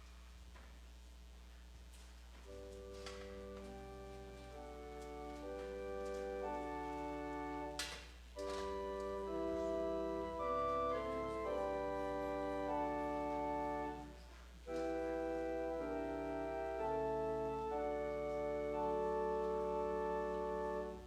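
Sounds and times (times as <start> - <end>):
organ playing slow chords: 2.2 - 21.0.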